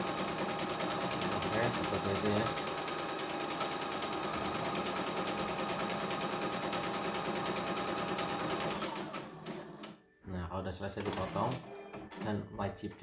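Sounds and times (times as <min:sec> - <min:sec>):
sewing machine motor whine: 0:00.0 - 0:09.9, 0:11.0 - 0:12.2.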